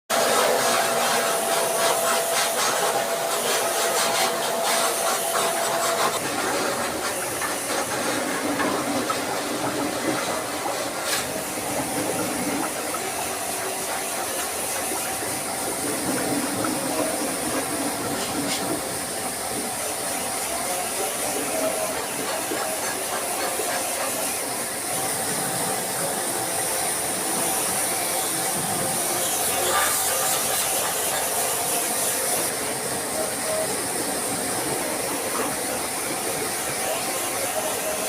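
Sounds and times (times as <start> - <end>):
pressure washer water jet hissing: 0.1 - 38.0.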